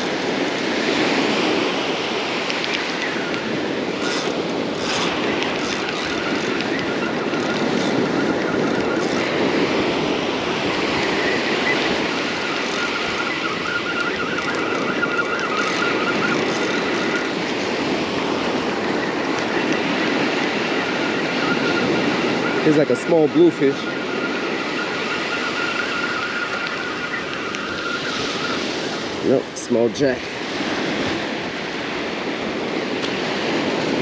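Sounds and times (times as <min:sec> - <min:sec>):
ocean surf on beach: 0:00.0 - 0:34.0
wind noise on microphone: 0:00.0 - 0:34.0.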